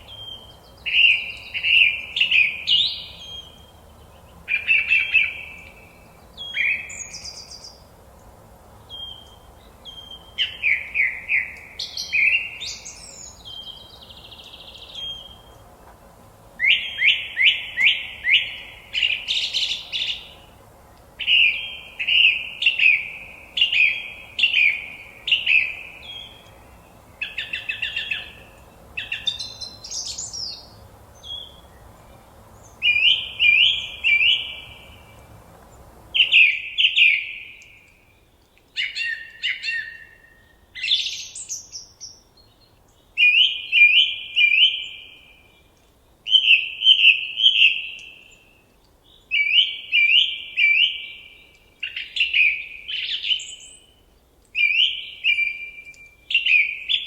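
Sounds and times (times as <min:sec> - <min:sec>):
bird chirping: 0:00.0 - 0:15.6, 0:16.6 - 0:57.0
faint background noise: 0:00.0 - 0:57.0.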